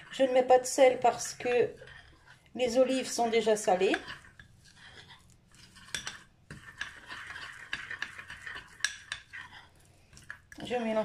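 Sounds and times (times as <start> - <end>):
spoon scraping glass bowl: 0.0 - 11.0.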